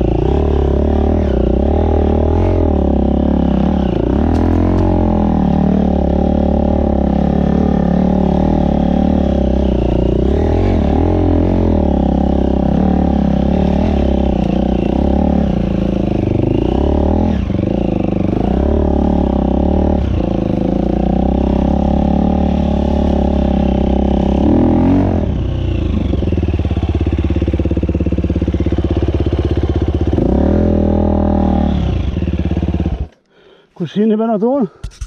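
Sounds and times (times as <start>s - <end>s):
motorcycle engine revving: 0.0s - 33.3s.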